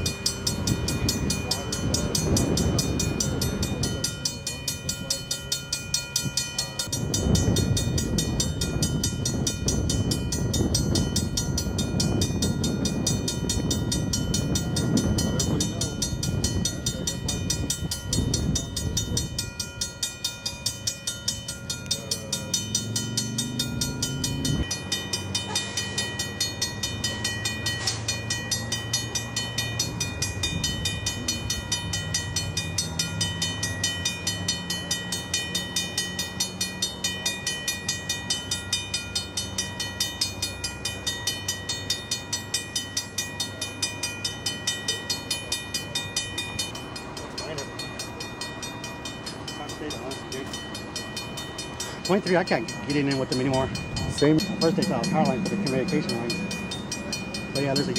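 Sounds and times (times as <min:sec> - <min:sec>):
railroad crossing warning bell: 0:00.0 - 0:57.9.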